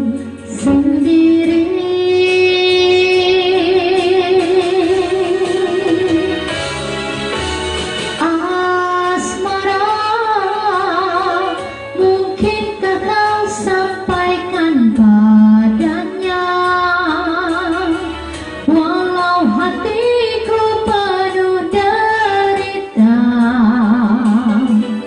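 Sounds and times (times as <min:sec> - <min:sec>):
woman singing a slow ballad: 0:00.0 - 0:06.6, 0:08.2 - 0:25.0
karaoke backing track with guitar: 0:00.0 - 0:25.0.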